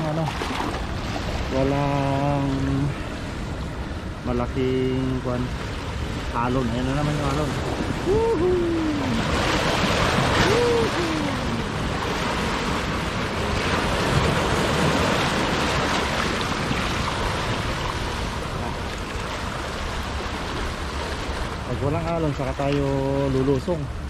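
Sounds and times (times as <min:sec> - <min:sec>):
ocean surf washing over rocks: 0:00.0 - 0:24.0.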